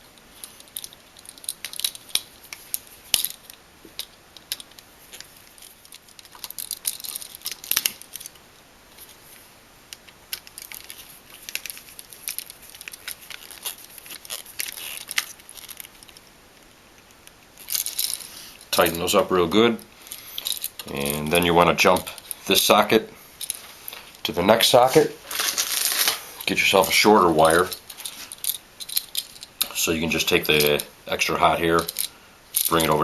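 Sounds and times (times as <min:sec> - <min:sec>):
wire clicks and scrapes: 0:00.0 - 0:30.9.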